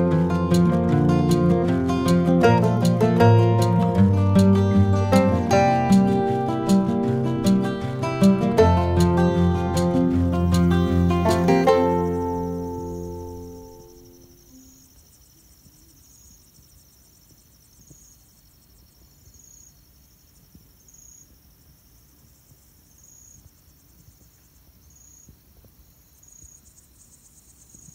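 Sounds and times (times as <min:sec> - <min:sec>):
crickets chirping: 0:00.0 - 0:27.9.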